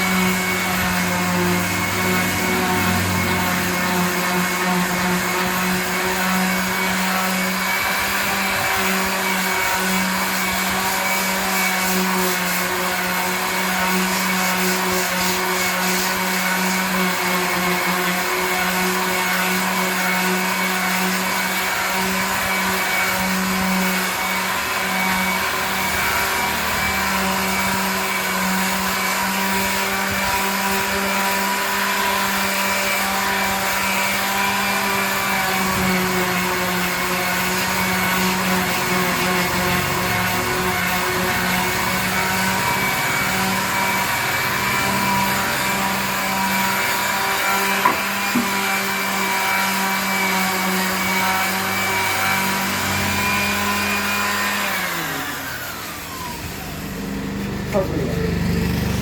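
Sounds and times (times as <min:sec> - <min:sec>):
electric power tool motor hum: 0:00.0 - 0:59.0.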